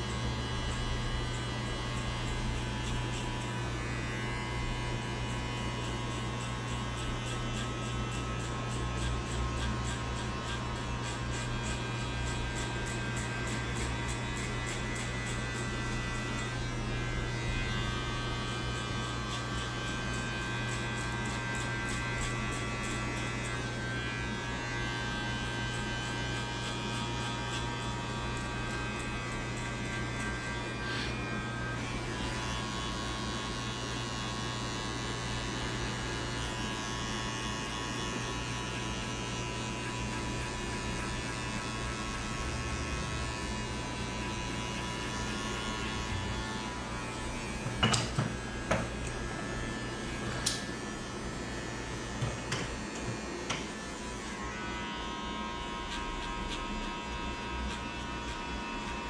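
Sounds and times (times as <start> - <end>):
electric hair clippers buzzing: 0.0 - 59.0.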